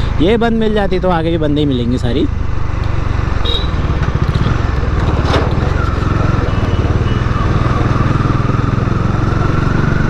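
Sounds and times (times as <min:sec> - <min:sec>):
motorcycle engine running: 0:01.2 - 0:10.0.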